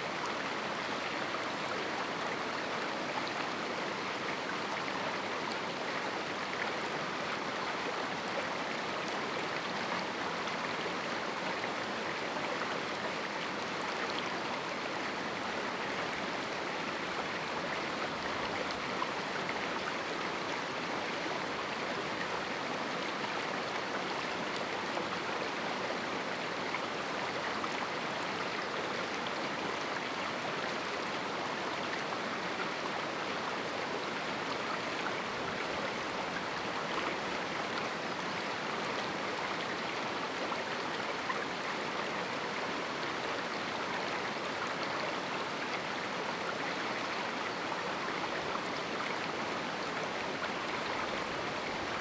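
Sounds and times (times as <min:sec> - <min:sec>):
river running over rocks: 0:00.0 - 0:52.0.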